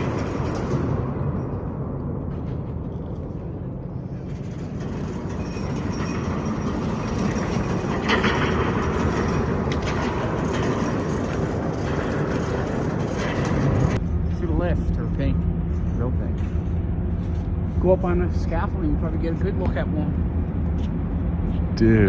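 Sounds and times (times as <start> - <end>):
moving vehicle rumble: 0.0 - 22.0.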